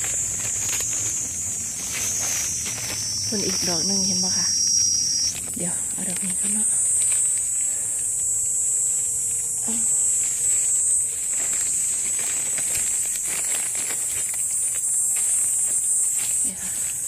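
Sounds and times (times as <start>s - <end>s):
insects droning: 0.0s - 17.0s
leaf litter crackling: 0.0s - 17.0s.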